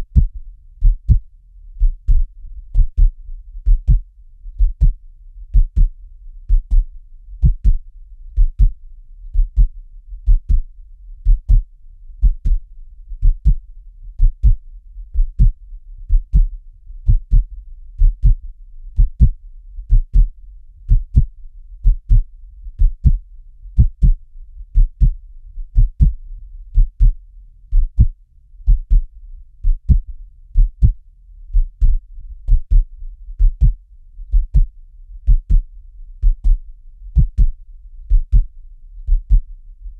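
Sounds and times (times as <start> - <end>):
heartbeat double thump: 0.0 - 4.0, 4.6 - 7.8, 8.4 - 12.6, 13.2 - 13.6, 14.2 - 16.5, 17.1 - 18.4, 19.0 - 23.2, 23.8 - 24.2, 24.8 - 36.6, 37.2 - 38.5, 39.1 - 39.5.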